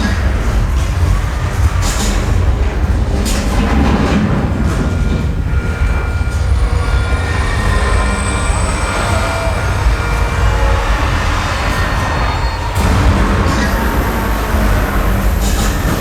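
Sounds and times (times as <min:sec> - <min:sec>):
deep rumble: 0:00.0 - 0:16.0
high metallic squeals: 0:00.0 - 0:16.0.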